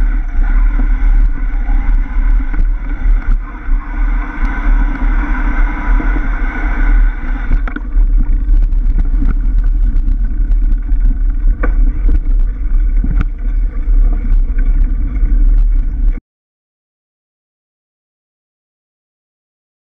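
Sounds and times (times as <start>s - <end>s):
bike rattling on gravel: 0.0s - 16.2s
wind buffeting microphone: 0.0s - 16.2s.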